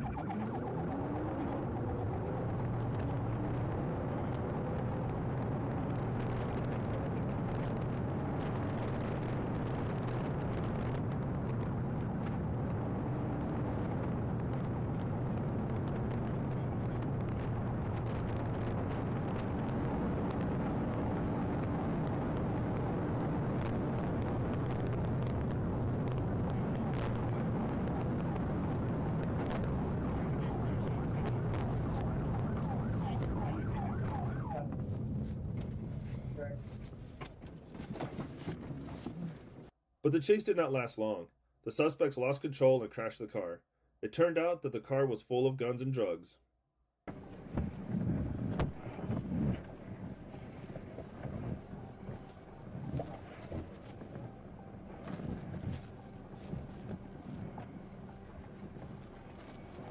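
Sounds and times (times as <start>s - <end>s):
vehicle engine and road noise: 0.0s - 40.4s, 47.1s - 59.9s.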